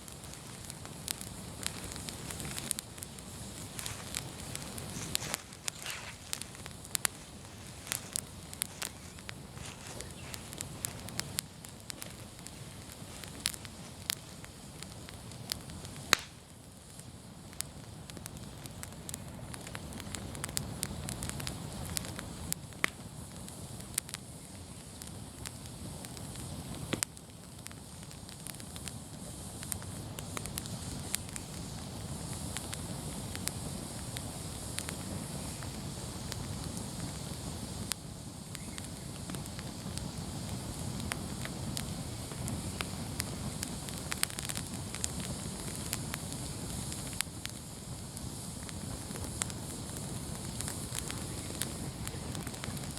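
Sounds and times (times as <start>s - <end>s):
fire crackling and popping: 0.0s - 52.9s
low rumble of burning: 0.0s - 52.9s.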